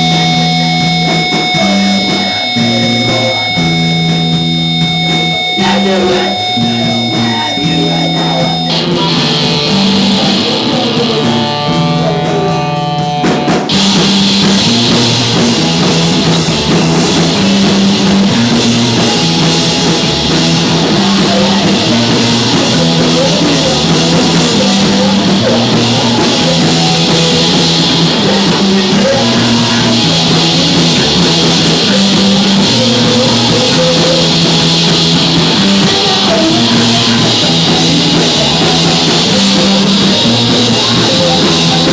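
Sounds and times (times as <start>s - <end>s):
drums and cymbals: 0.0s - 41.9s
electric guitar: 0.0s - 41.9s
rock band playing: 0.0s - 41.9s.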